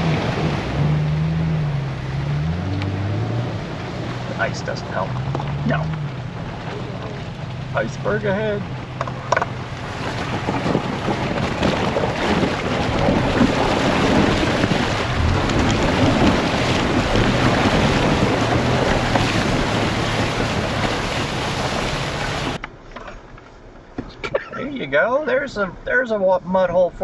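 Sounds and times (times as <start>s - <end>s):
water sloshing against vehicle: 0.0s - 22.6s
low engine hum: 0.0s - 22.7s.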